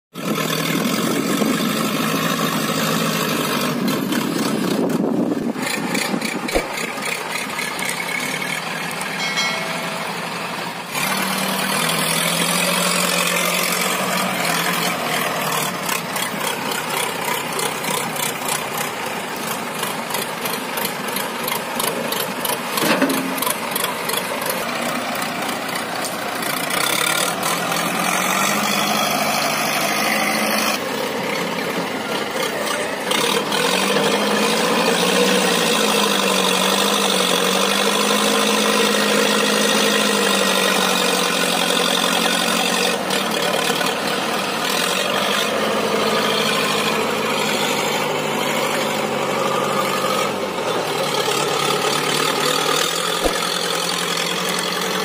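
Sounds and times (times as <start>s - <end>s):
diesel engines running: 0.2s - 55.0s
loader bucket loading soil: 0.3s - 9.2s, 9.8s - 55.0s.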